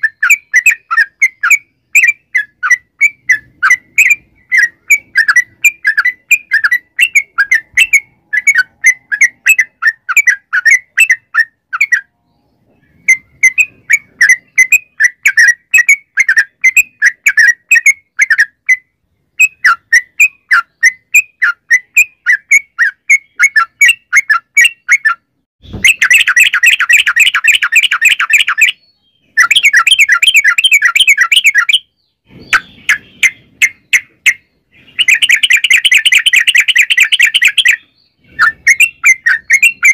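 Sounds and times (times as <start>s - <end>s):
bird singing quick repeated notes: 0.0s - 39.9s.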